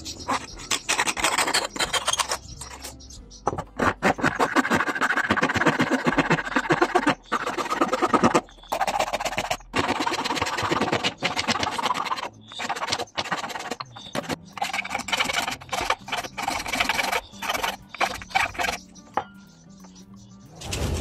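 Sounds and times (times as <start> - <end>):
metal file rasping across wood: 0.0 - 19.0.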